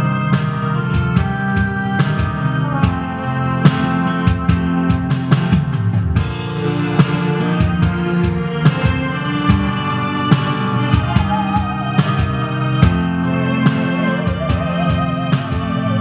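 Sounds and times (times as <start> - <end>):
drums and keyboards backing track: 0.0 - 16.0
musical saw melody with vibrato: 0.0 - 16.0.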